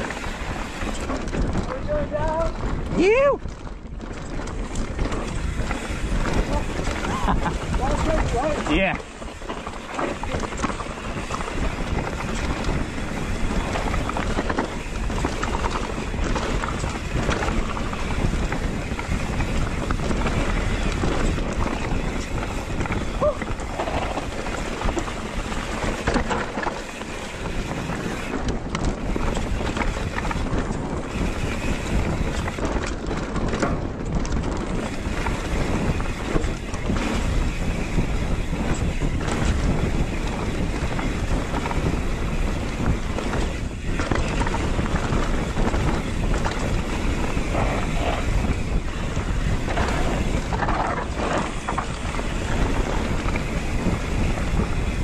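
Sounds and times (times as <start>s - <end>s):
bike knocks and rattles: 0.0s - 55.0s
bike tyres rolling on dirt: 0.0s - 55.0s
wind buffeting microphone: 0.0s - 55.0s.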